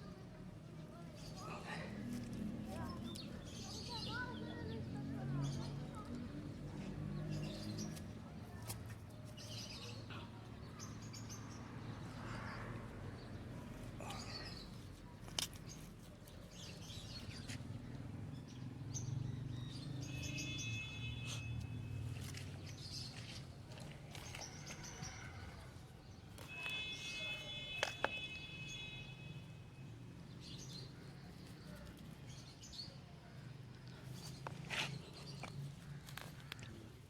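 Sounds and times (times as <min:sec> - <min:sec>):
small birds chirping: 0:00.1 - 0:37.0.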